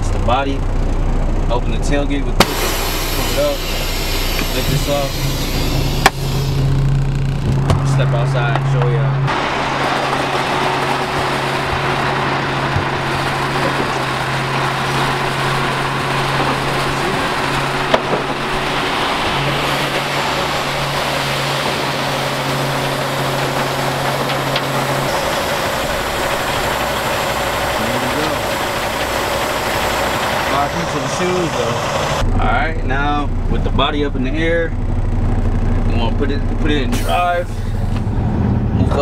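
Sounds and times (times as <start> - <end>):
low hydraulic hum: 2.2 - 38.3.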